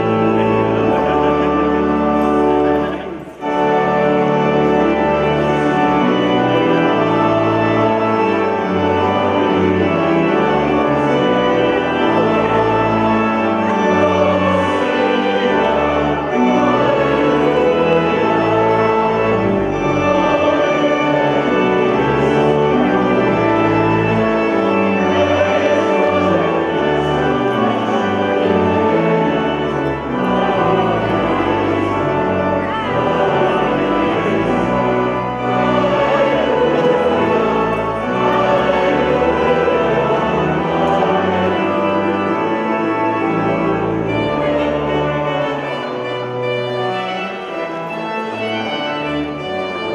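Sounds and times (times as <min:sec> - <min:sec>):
choir singing: 0:00.0 - 0:49.9
organ chords: 0:00.0 - 0:49.9.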